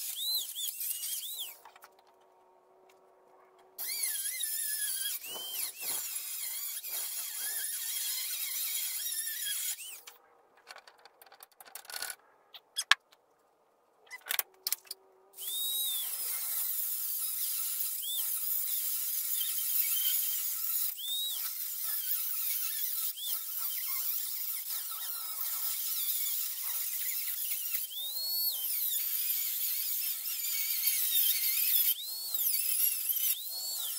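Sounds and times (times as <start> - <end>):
rotary tool grinding metal: 0.0 - 1.8, 3.4 - 10.2, 14.1 - 33.9.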